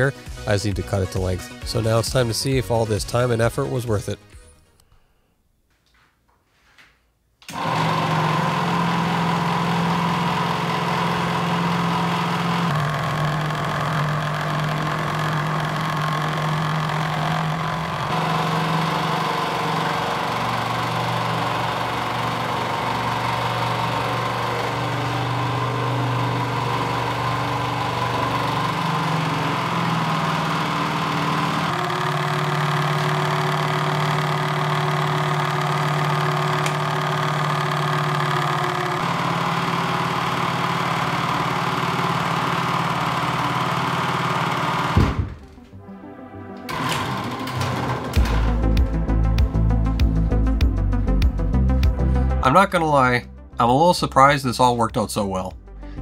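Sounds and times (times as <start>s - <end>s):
winch motor humming: 7.4s - 52.6s.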